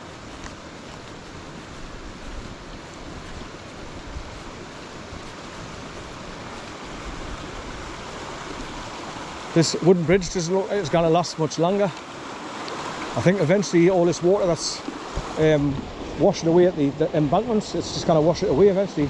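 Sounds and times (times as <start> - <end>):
wind buffeting microphone: 0.0 - 11.0, 12.3 - 19.0
stream water rushing: 0.0 - 19.0.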